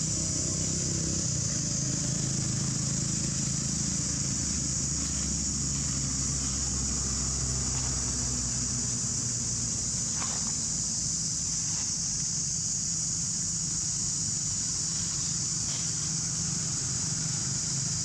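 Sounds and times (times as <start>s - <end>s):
high-pitched insect drone: 0.0s - 18.0s
low engine hum: 0.0s - 18.0s.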